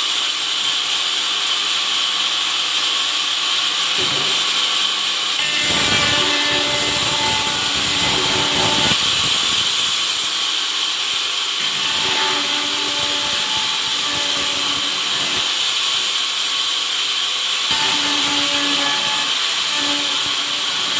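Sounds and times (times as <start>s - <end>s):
band sawmill running: 0.0s - 20.9s.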